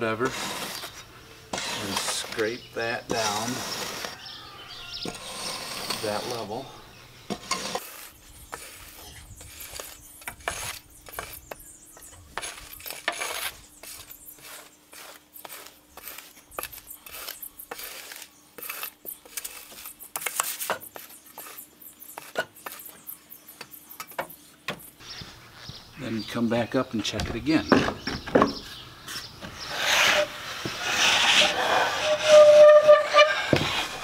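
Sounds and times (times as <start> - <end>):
rake scraping damp sand: 0.0 - 23.4, 28.6 - 34.0.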